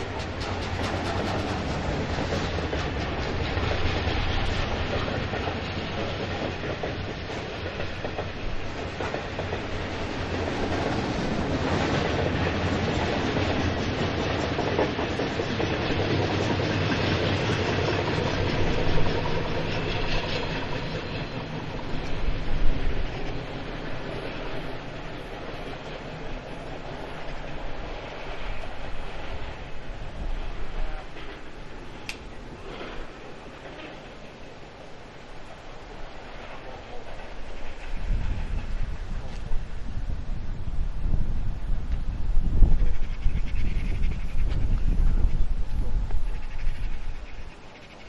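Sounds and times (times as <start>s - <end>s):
wheels clicking over rail joints: 0.0s - 39.7s
freight train rolling past: 0.0s - 48.0s.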